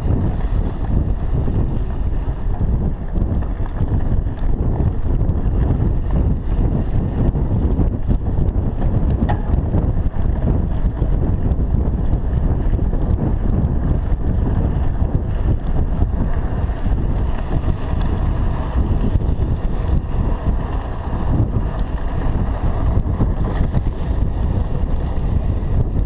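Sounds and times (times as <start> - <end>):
bike rolling on dirt trail: 0.0 - 26.0
wind buffeting microphone: 0.0 - 26.0.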